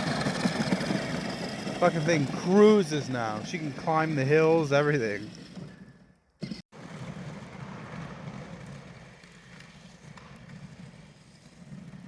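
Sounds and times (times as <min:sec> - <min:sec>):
studded tires on snow: 0:00.0 - 0:12.0.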